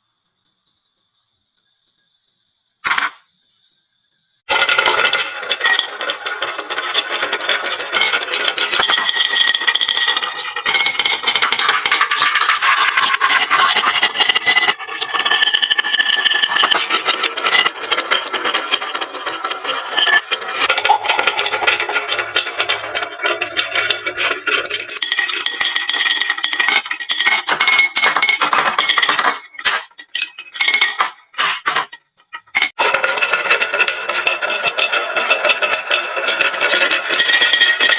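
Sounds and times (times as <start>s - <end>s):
marbles rolling down wooden run: 4.5s - 32.0s, 32.7s - 37.9s.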